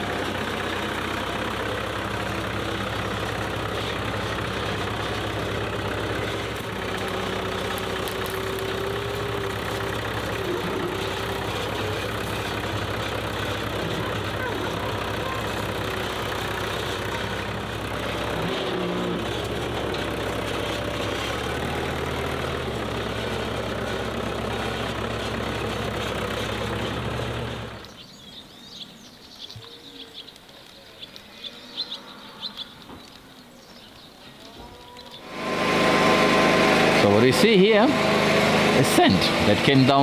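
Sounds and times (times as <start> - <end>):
vehicle engine running: 0.0 - 28.8, 35.1 - 40.0
birds chirping: 0.0 - 35.4.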